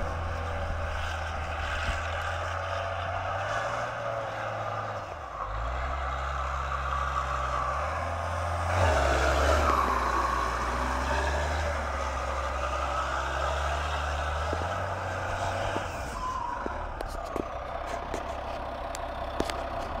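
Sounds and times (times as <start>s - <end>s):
diesel truck engine: 0.0s - 20.0s.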